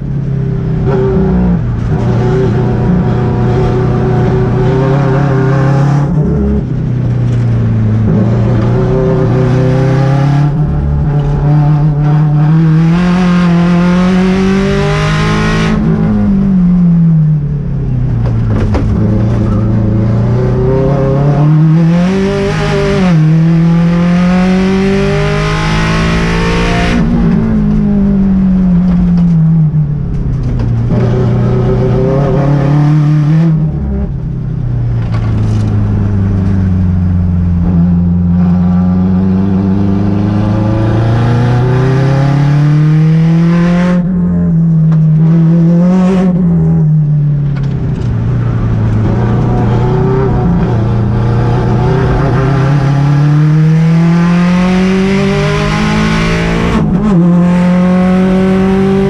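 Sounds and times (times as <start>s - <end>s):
turbocharged car engine accelerating: 0.7s - 59.0s.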